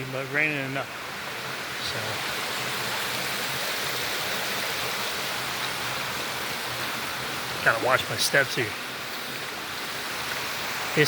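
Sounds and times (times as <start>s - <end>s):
water splashing over rocks: 0.0s - 11.0s.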